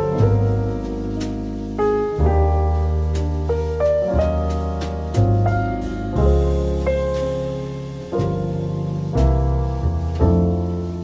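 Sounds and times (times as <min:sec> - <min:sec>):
deep bass note: 0:00.0 - 0:11.0
piano chords: 0:00.0 - 0:11.0.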